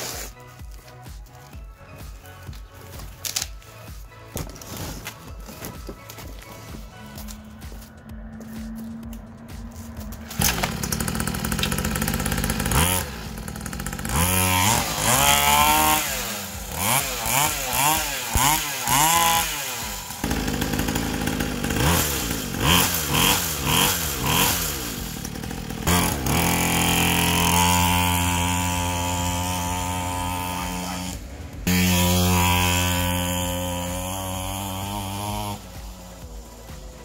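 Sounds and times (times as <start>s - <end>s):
two-stroke dirt bike revving: 5.4s - 37.0s.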